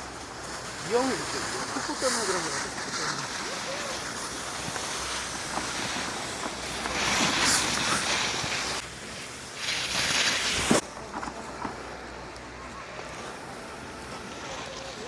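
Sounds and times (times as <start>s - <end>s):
skis scraping across snow: 0.0s - 15.0s.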